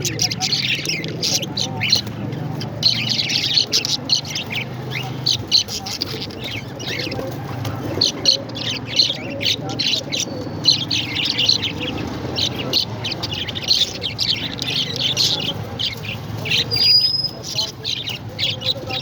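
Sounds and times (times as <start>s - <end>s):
parrots chirping and chattering: 0.0s - 19.0s.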